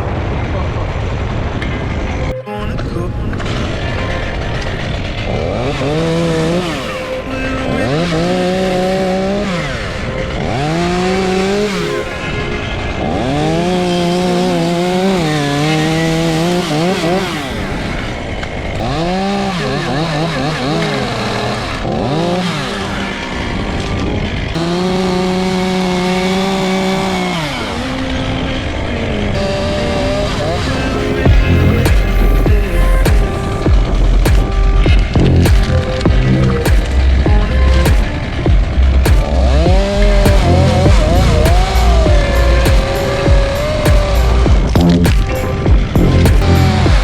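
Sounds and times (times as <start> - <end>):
chainsaw cutting wood: 4.5 - 47.0.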